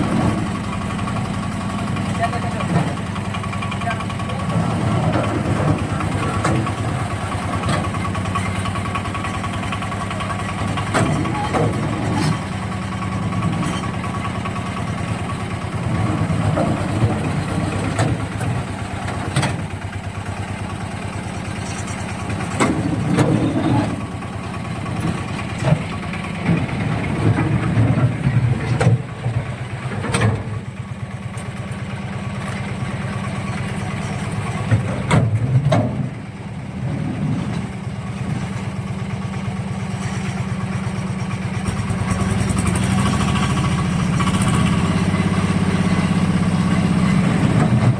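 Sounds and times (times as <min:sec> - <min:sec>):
construction machine engine running: 0:00.0 - 0:47.9.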